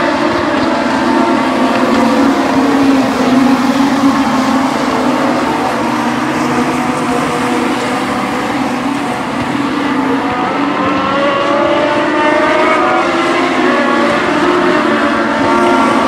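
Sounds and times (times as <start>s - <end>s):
race car engines at high revs: 0.0s - 16.0s.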